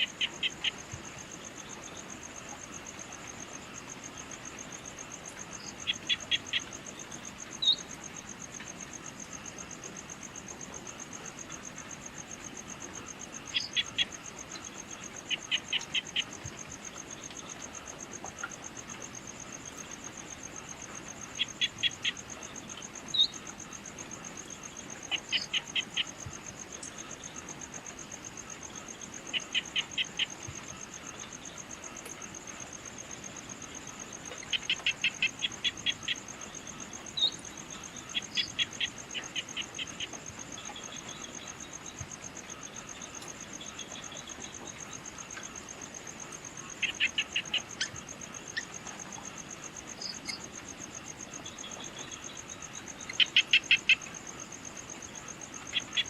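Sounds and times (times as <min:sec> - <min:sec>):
insects trilling: 0:00.0 - 0:56.0
rapid insect chirps: 0:00.0 - 0:56.0.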